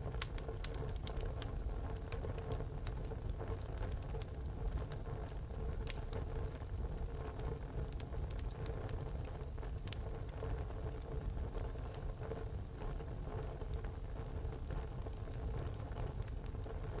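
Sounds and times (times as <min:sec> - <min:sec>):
fire rumbling in stove: 0:00.0 - 0:17.0
wood crackling and popping: 0:00.0 - 0:17.0.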